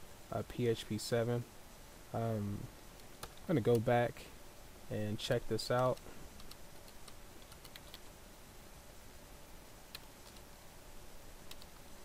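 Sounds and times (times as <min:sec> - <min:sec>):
low steady hiss: 0:00.0 - 0:12.0.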